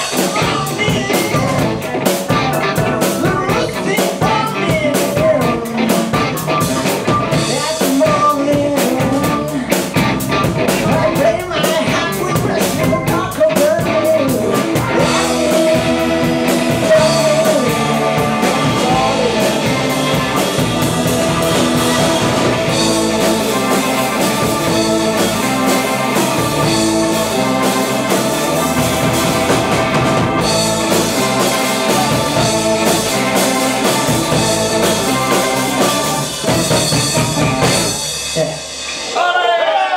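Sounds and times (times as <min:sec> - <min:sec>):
person singing: 0:00.0 - 0:36.3
blues-rock band playing: 0:00.0 - 0:39.9.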